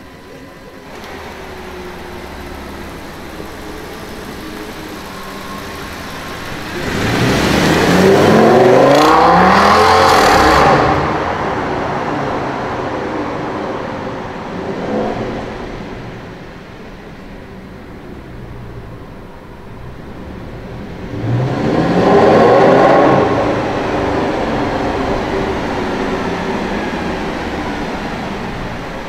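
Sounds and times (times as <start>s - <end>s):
car engine accelerating in tunnel: 0.0s - 29.0s.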